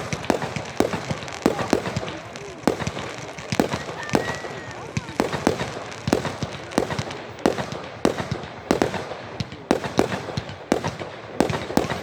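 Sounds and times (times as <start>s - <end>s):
fireworks banging: 0.0s - 12.0s
fireworks crackling: 0.0s - 12.0s.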